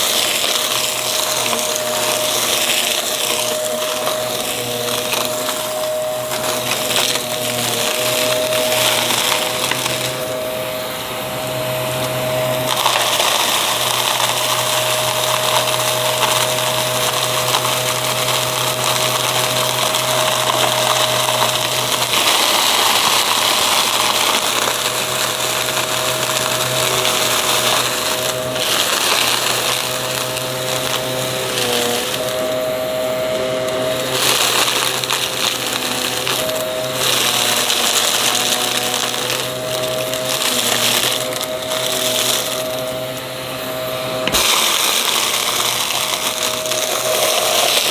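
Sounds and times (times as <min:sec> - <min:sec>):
vacuum cleaner running: 0:00.0 - 0:47.9
vacuum crunching up debris: 0:00.0 - 0:47.9.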